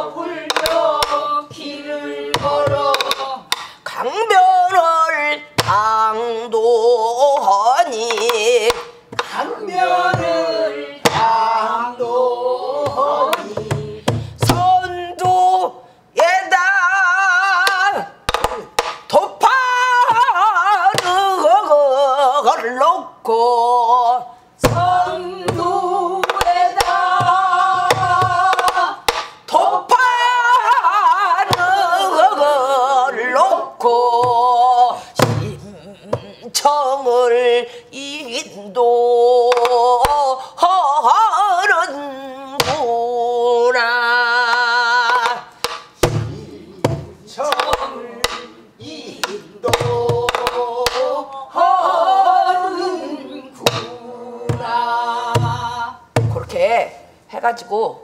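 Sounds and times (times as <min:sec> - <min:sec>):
woman singing with vibrato: 0:00.0 - 0:18.2, 0:19.1 - 0:56.8.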